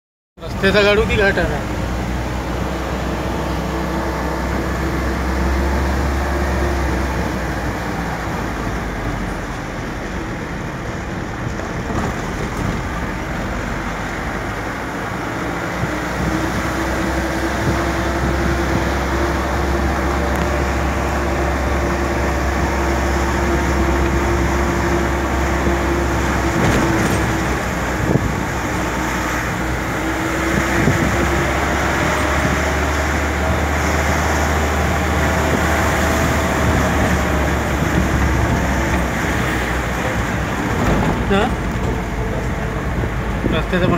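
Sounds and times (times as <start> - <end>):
vehicle engine and road noise: 0.4 - 43.9.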